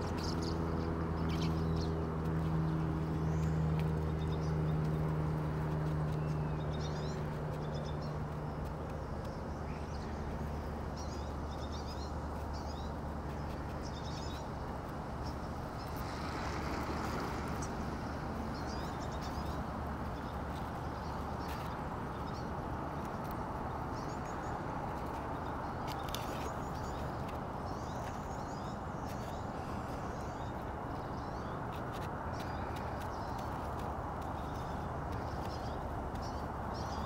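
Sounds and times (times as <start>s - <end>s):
outdoor background noise: 0.0s - 37.0s.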